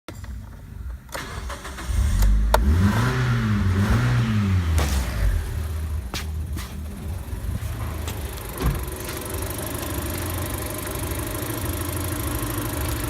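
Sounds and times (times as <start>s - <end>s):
car engine revving and idling: 1.1s - 13.0s.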